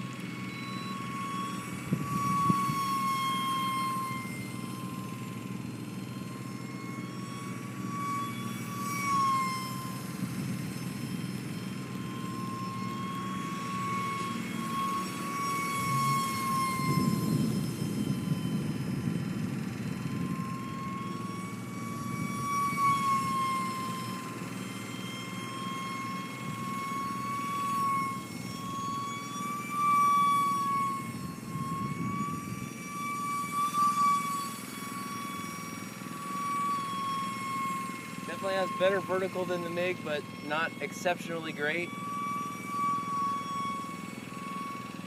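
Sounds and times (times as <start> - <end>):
electric fan high whine: 0.0 - 45.0.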